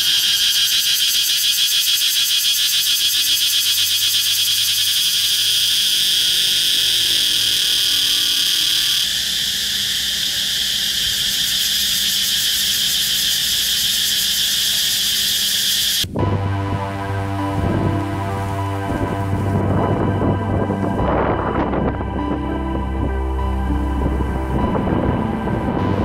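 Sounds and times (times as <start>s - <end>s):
cicada buzzing: 0.0s - 21.1s.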